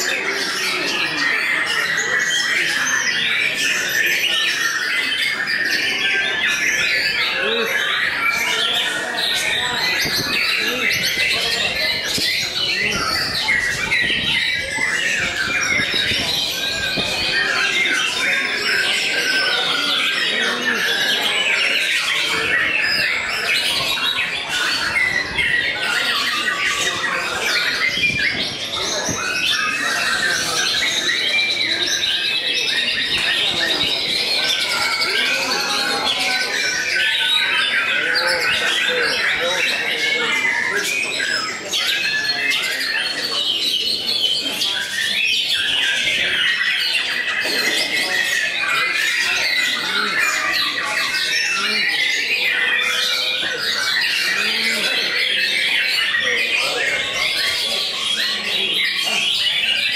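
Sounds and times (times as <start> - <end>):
other caged songbirds singing: 0.0 - 59.9.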